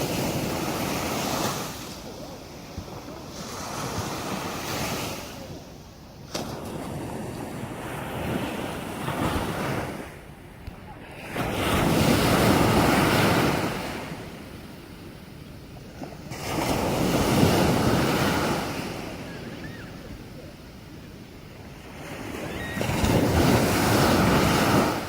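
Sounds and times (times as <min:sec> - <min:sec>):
waves breaking on beach: 0:00.0 - 0:25.0.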